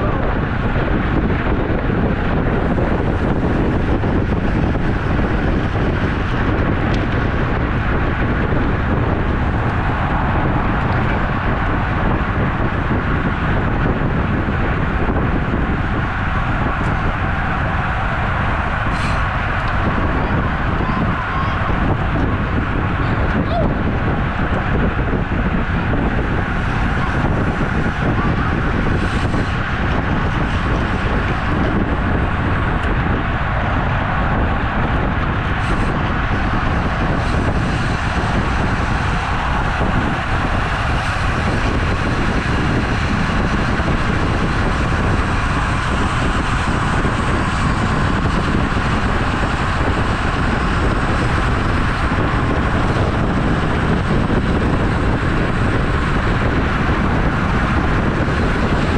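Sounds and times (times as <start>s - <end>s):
bicycle road noise: 0.0s - 58.9s
rushing wind: 0.0s - 58.9s.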